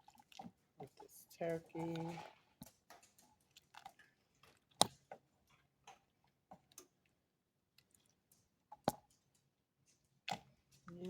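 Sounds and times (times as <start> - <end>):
irregular clicks and light knocks: 0.0 - 11.0.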